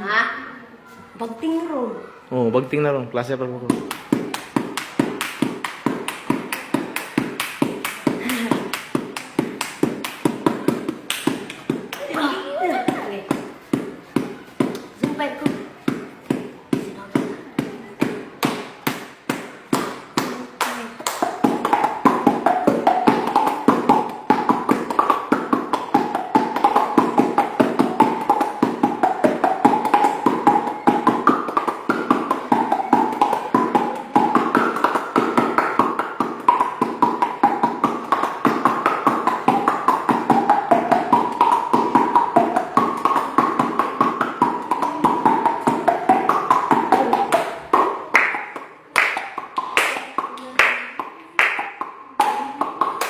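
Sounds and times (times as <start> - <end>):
fast tapping beat: 3.7 - 12.2, 12.8 - 53.0.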